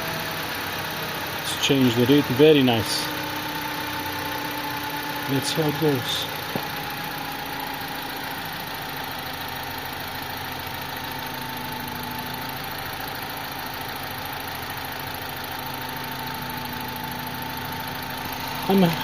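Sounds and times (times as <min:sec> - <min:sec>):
car engine idling: 0:00.0 - 0:19.0
constant engine whine: 0:00.0 - 0:19.0.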